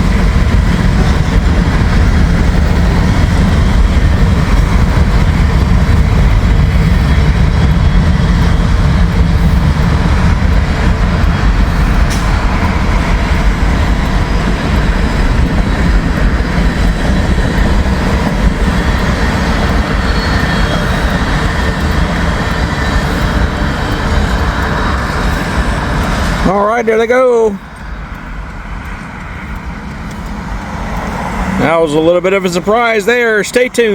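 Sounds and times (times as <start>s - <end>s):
freight train wheels rumbling: 0.0s - 33.9s.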